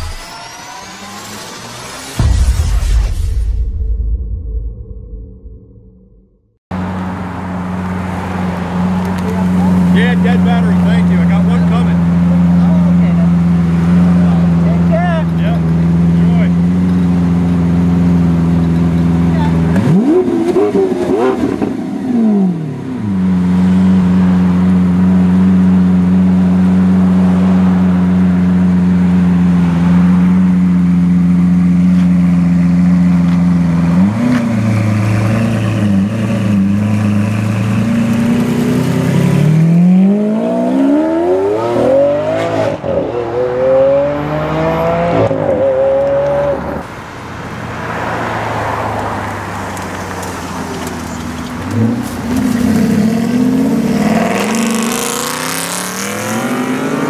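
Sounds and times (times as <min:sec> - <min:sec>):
quieter car engine: 0:06.7 - 0:57.0
sports car engine revving: 0:07.8 - 0:46.8, 0:48.4 - 0:57.0.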